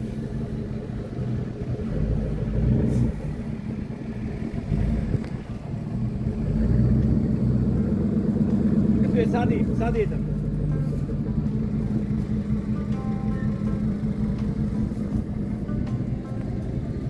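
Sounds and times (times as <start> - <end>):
suv engine rumbling: 0.0 - 17.0.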